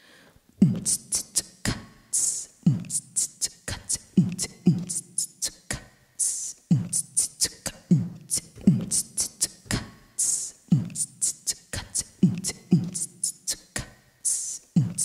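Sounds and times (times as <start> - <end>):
vocal beatbox into microphone: 0.6 - 15.0.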